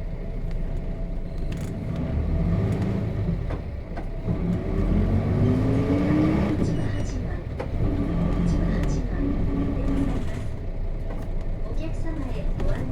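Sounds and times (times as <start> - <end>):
bus diesel engine accelerating: 0.0 - 12.9.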